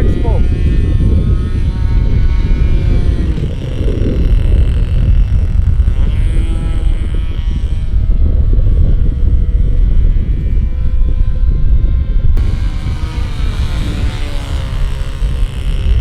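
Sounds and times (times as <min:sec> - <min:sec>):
heavy low rumble: 0:00.0 - 0:16.0
model airplane engine: 0:00.0 - 0:16.0.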